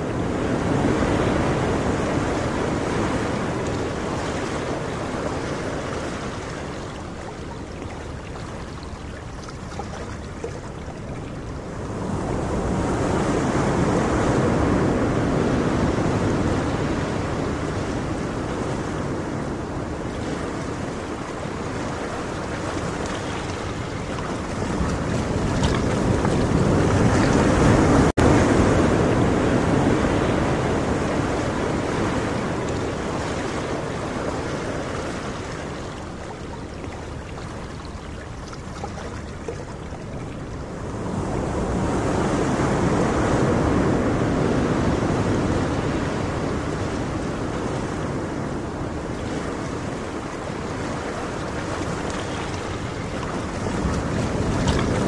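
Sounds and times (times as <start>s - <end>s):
ocean waves washing in: 0.0s - 55.0s
wind: 0.0s - 55.0s.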